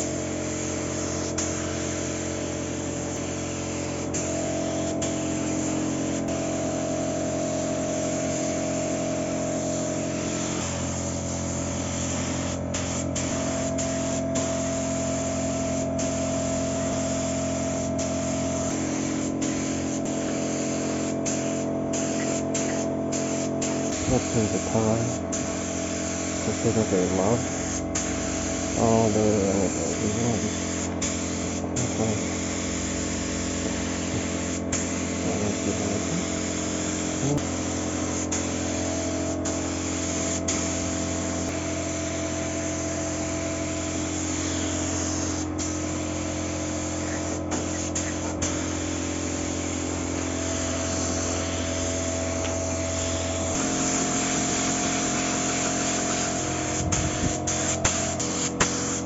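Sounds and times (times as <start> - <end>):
motor running with hiss: 0.0 - 59.0.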